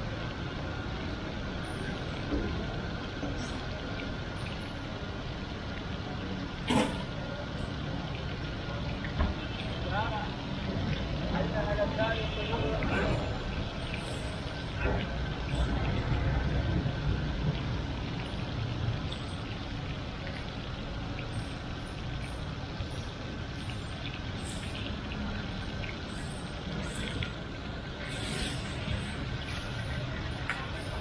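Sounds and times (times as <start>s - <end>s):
low street rumble: 0.0s - 31.0s.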